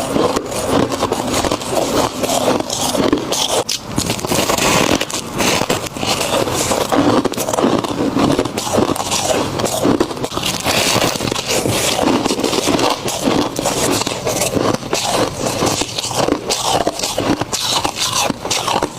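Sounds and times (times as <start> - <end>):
frost crunching while chewed: 0.0 - 18.9.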